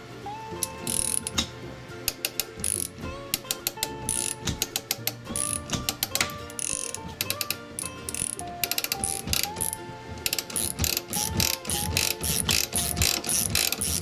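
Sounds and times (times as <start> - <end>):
ratchet wrench clicking: 0.6 - 1.5, 2.1 - 14.0.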